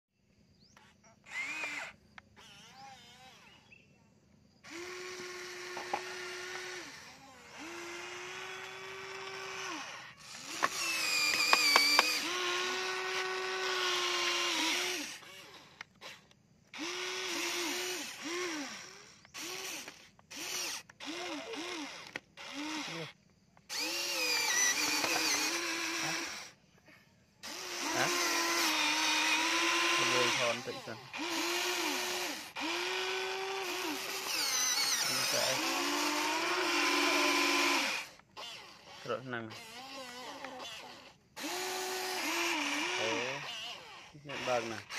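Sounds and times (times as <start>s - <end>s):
toy electric motors whining: 0.6s - 44.9s.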